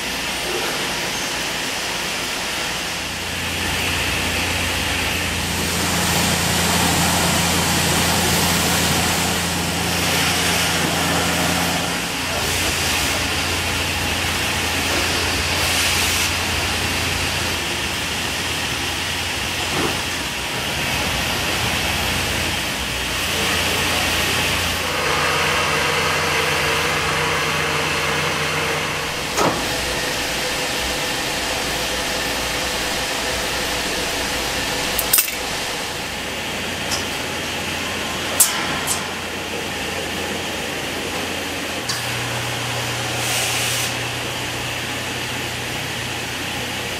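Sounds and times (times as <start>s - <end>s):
machine hum and hiss: 0.0s - 46.9s.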